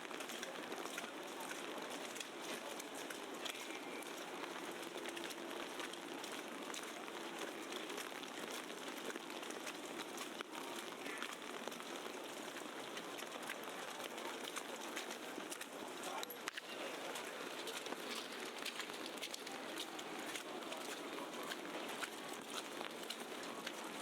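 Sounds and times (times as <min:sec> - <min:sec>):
wet snow pattering: 0:00.1 - 0:24.0.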